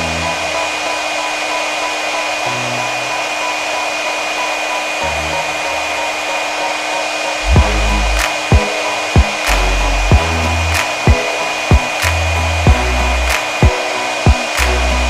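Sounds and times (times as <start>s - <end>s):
background music: 0.0s - 15.0s
heat gun blowing: 0.0s - 15.0s.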